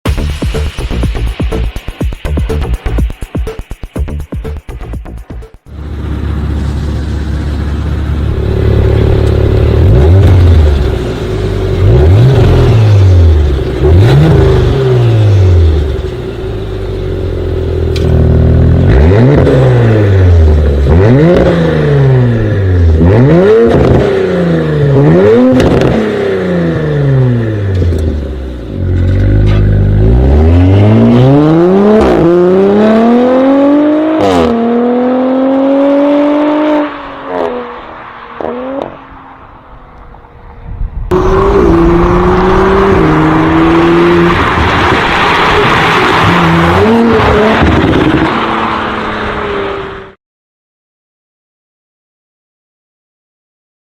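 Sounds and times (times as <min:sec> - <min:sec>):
car engine revving: 0:00.1 - 0:40.5, 0:41.1 - 0:50.1.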